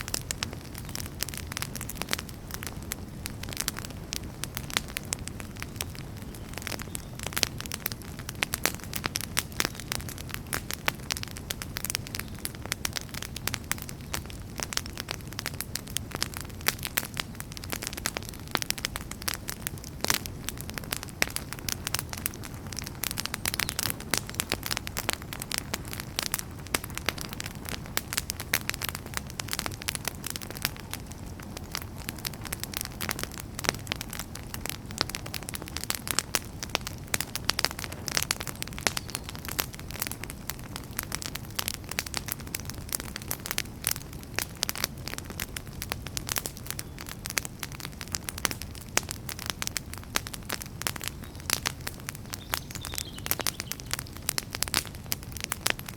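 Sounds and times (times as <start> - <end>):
low rumble of flames: 0.0 - 55.9
wood fire crackling and popping: 0.0 - 55.9.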